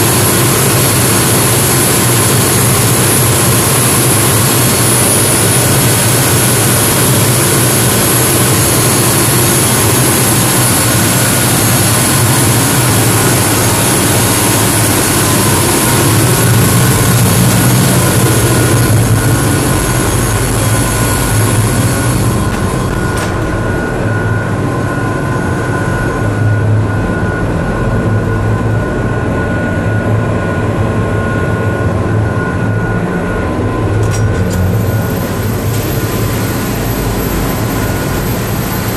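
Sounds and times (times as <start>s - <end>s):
diesel engines running: 0.0s - 38.9s
engine whining tones: 0.0s - 38.9s.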